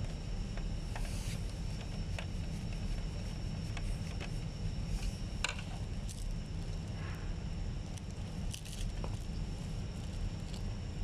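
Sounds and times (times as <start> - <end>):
low hum with high whine: 0.0 - 11.0.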